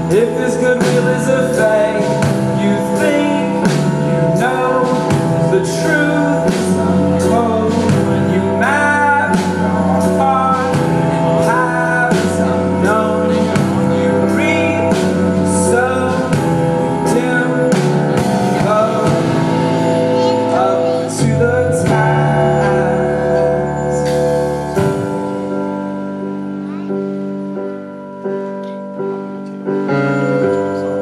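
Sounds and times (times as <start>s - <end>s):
male lead vocal: 0.0s - 25.8s
drums steady beat: 0.0s - 26.0s
electric bass: 0.0s - 26.7s
keyboard: 0.0s - 31.0s.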